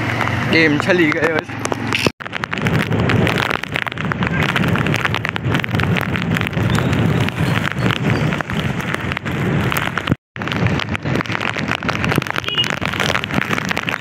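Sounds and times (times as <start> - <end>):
wind buffeting microphone: 1.2 - 14.0
heavy rain pattering on plastic: 2.2 - 14.0.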